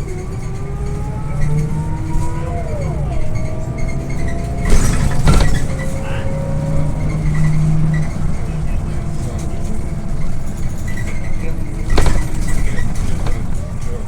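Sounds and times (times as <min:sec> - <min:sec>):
bus drivetrain whining: 0:00.0 - 0:14.0
bus engine running: 0:00.0 - 0:14.0
rattling clatter: 0:00.0 - 0:14.0.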